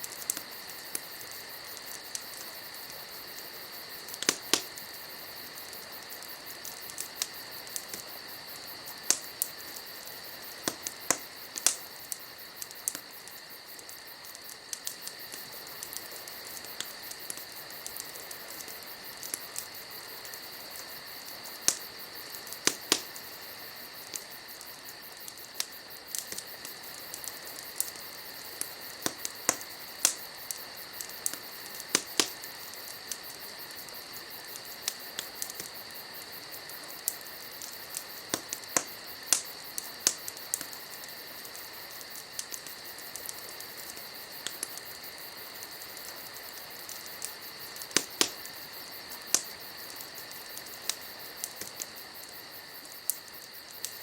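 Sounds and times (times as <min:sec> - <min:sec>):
campfire crackling: 0:00.0 - 0:54.0
crickets chirring: 0:00.0 - 0:54.0.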